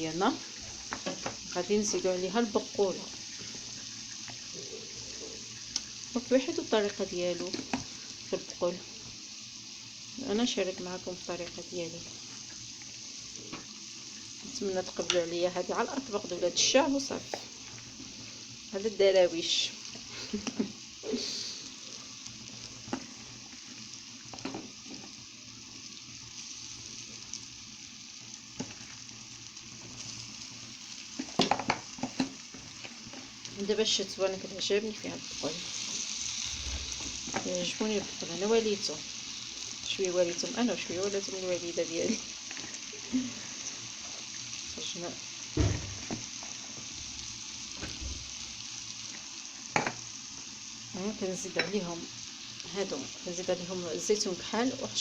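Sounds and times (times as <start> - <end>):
greens sizzling in a pan: 0.0 - 55.0.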